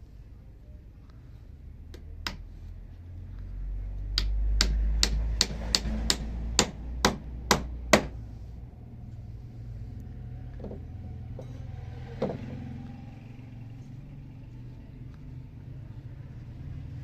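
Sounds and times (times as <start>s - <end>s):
low rumble: 2.5s - 17.0s.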